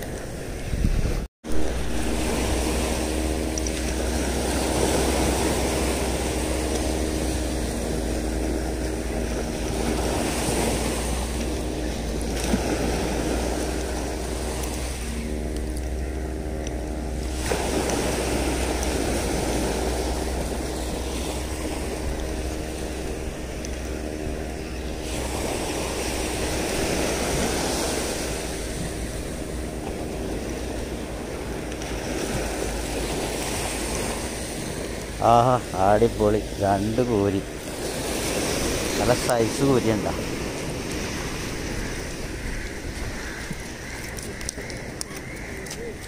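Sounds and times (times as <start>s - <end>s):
surf washing on shore: 0.0s - 46.0s
fishing reel whirring: 1.5s - 46.0s.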